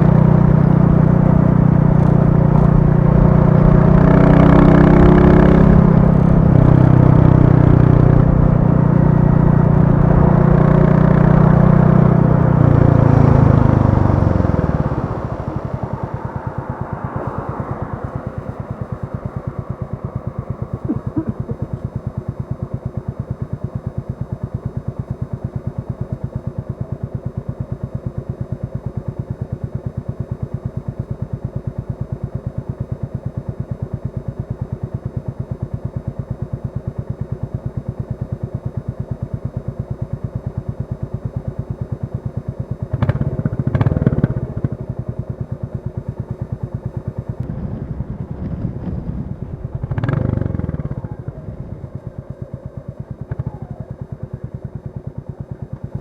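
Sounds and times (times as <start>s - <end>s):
motorcycle engine running at low revs: 0.0s - 56.0s.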